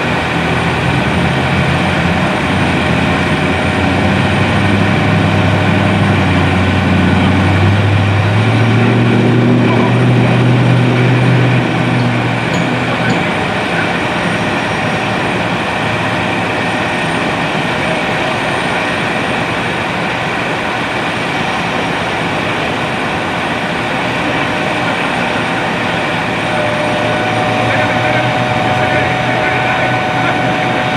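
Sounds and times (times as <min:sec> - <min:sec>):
heavy vehicle engine: 0:00.0 - 0:30.9
traffic noise: 0:00.0 - 0:30.9.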